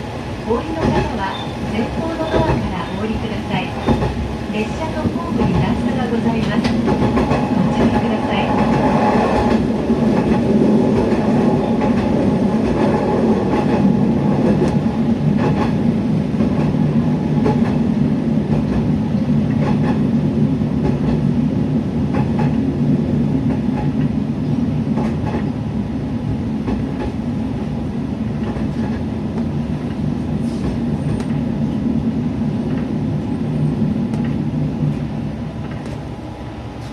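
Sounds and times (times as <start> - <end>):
railcar engine drone: 0.0 - 36.9.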